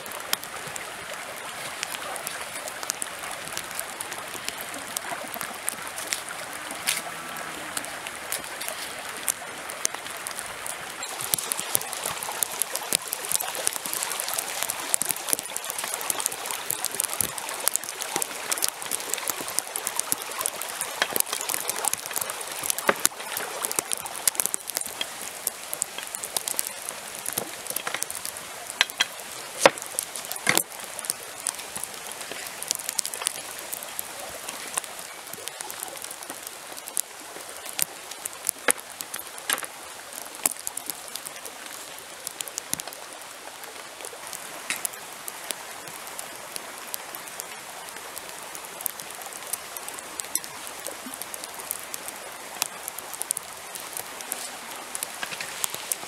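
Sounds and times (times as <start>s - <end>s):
small stream rushing: 0.0s - 56.0s.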